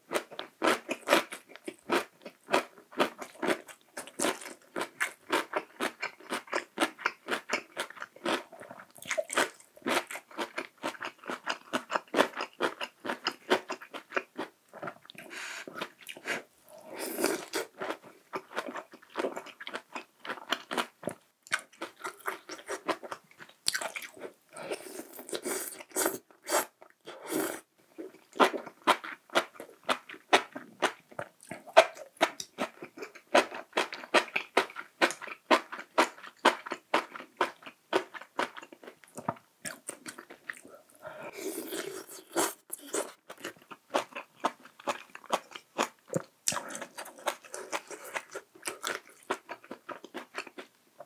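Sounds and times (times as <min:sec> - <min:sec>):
person chewing with wet smacks: 0:00.1 - 0:16.4, 0:17.1 - 0:24.3, 0:25.0 - 0:50.7.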